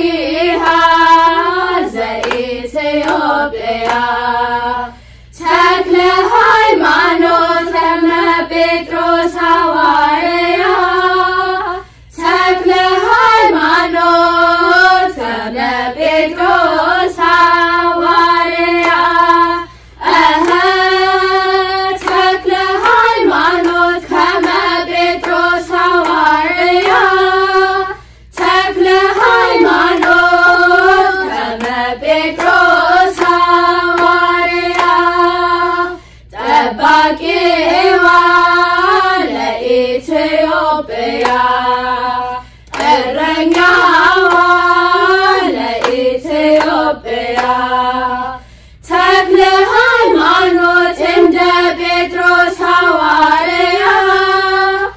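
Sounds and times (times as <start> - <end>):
women's choir singing in unison: 0.0 - 54.9.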